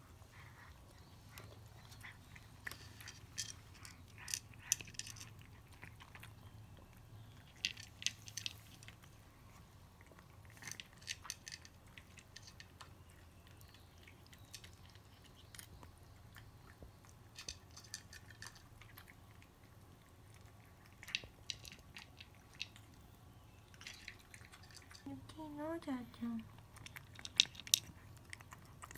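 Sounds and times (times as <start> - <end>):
cats crunching dry kibble: 0.0 - 25.3, 25.9 - 28.9
low room hum: 0.0 - 28.9.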